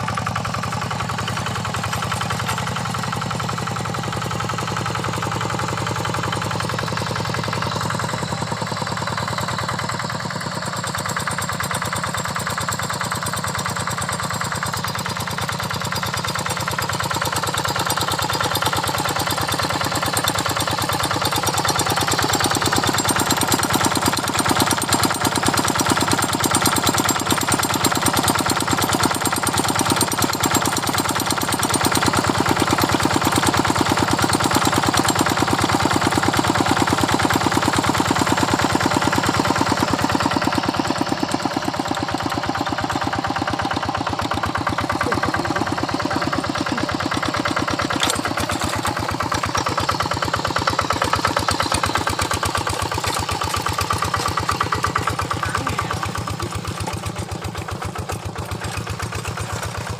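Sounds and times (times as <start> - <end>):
diesel engine knocking: 0.0 - 59.9.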